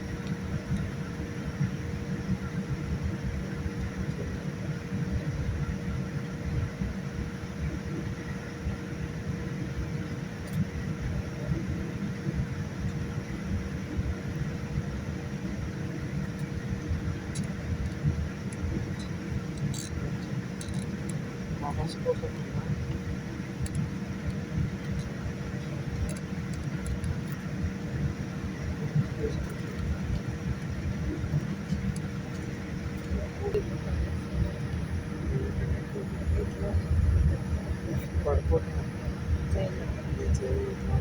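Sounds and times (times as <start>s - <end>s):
airplane cabin rumble: 0.0s - 41.0s
thin constant hum: 0.0s - 41.0s.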